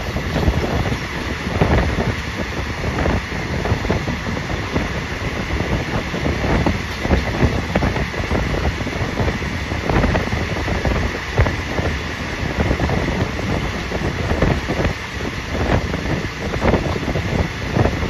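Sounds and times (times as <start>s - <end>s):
train wheels rumbling with knocks: 0.0s - 18.0s
wind buffeting microphone: 0.0s - 18.0s.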